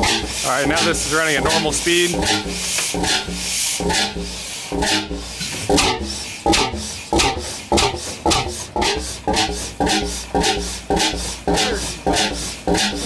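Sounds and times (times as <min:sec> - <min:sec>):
engine exhaust beats: 0:00.0 - 0:13.0.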